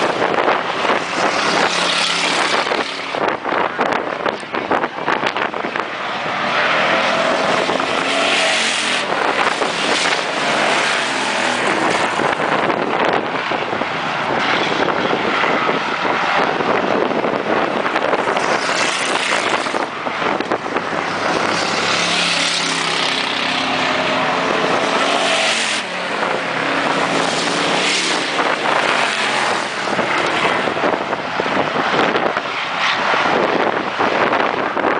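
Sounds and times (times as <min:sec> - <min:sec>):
race cars passing by: 0:00.0 - 0:34.9.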